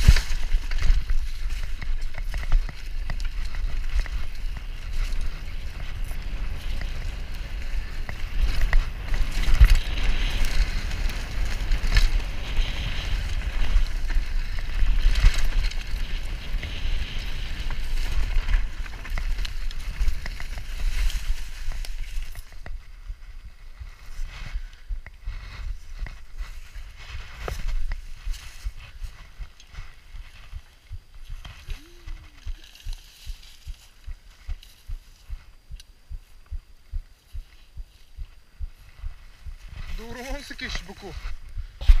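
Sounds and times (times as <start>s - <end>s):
bike knocking and rattling: 0.0s - 40.4s
bike tyre noise: 0.0s - 42.0s
wind rumble on microphone: 0.0s - 42.0s.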